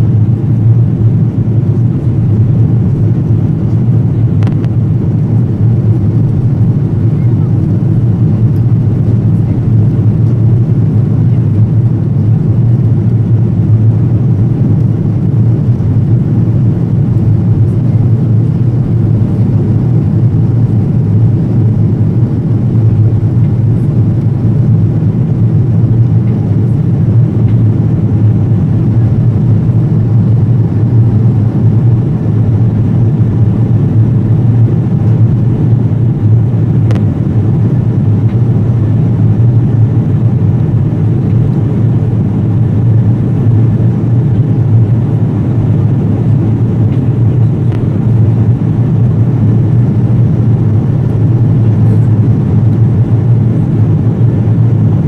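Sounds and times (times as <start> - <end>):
airplane cabin engine drone: 0.0 - 55.0.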